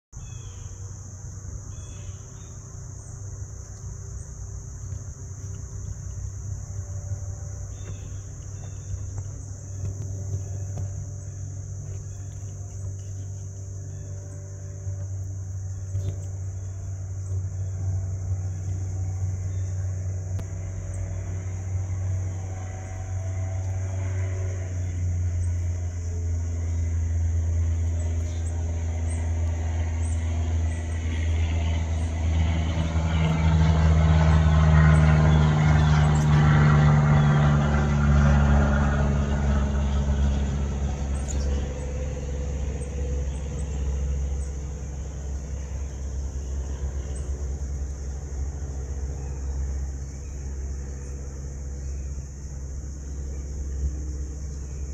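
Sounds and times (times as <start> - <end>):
road traffic rumble: 0.1 - 54.9
vehicle passing: 0.2 - 54.9.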